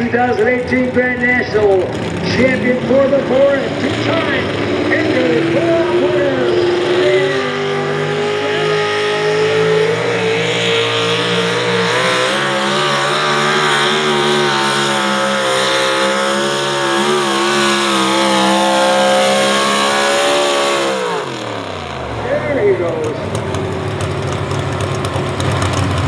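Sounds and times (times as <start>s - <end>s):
truck engine running flat out: 0.0s - 26.0s.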